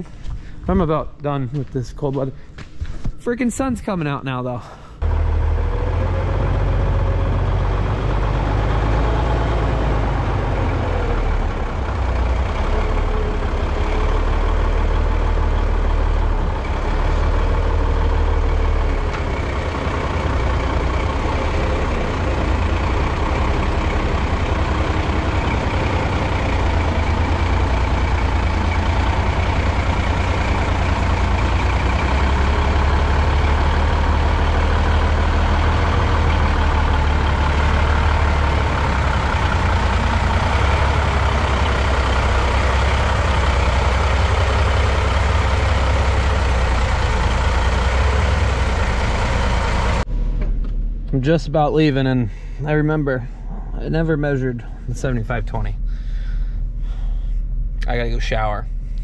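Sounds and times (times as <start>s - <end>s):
truck engine deep rumble: 0.0s - 59.0s.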